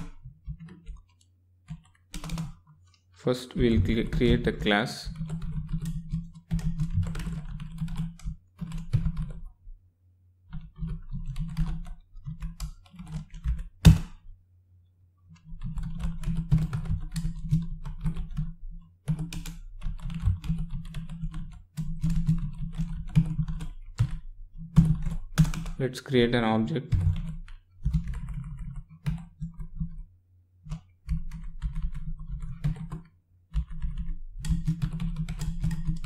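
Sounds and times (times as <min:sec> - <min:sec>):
typing on keyboard: 0:00.0 - 0:02.7, 0:03.6 - 0:09.5, 0:10.5 - 0:14.0, 0:15.3 - 0:25.8, 0:26.9 - 0:36.0.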